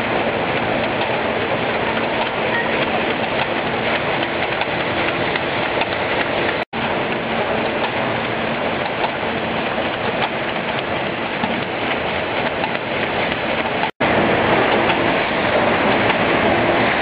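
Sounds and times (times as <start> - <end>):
machine rattling with fast ticks: 0.0 - 13.9.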